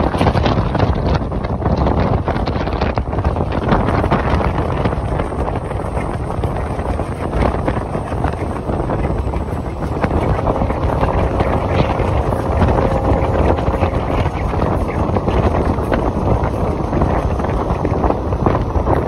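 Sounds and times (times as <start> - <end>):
train coaches rumbling on track: 0.0 - 19.0
wind buffeting microphone: 0.0 - 19.0.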